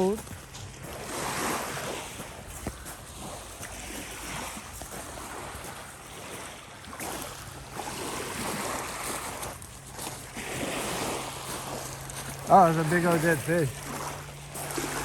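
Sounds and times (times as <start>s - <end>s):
small waves lapping: 0.0s - 15.0s.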